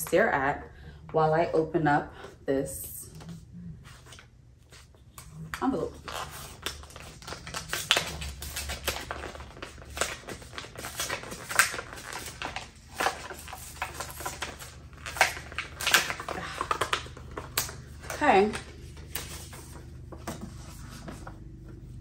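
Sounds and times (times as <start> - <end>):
paper rustling and crackling: 3.9 - 22.0.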